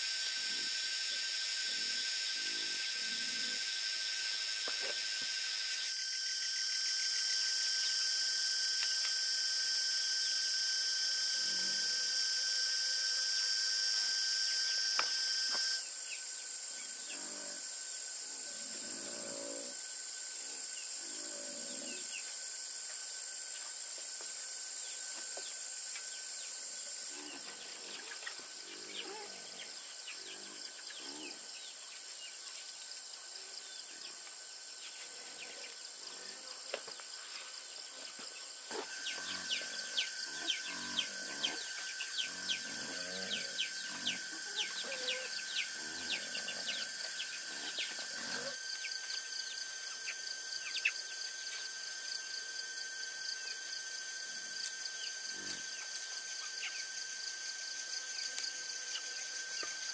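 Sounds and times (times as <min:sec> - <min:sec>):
faint low insect calls: 0:00.0 - 0:59.9
high steady insect tones: 0:00.0 - 0:59.9
quick insect chirps: 0:00.0 - 0:59.9.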